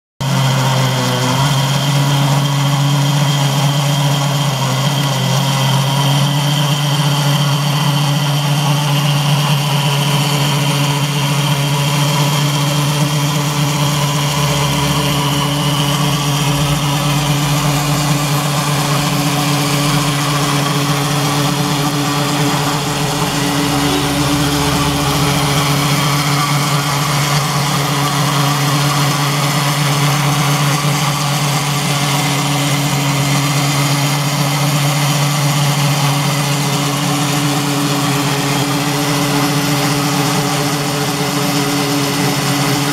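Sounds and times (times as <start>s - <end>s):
electric motor humming and whirring: 6.1s - 42.9s.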